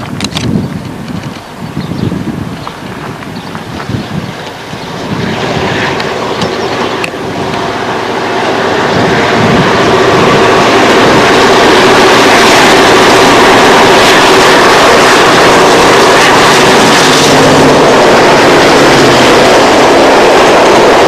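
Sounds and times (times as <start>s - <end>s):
diesel locomotive engine drone: 0.0s - 21.0s.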